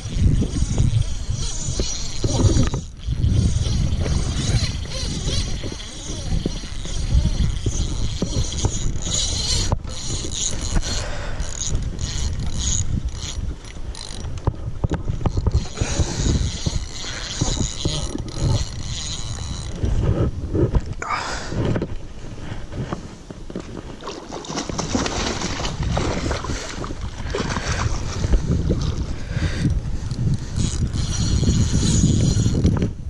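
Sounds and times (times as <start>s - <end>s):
fishing reel gears whirring: 0.0s - 20.9s, 25.0s - 33.0s.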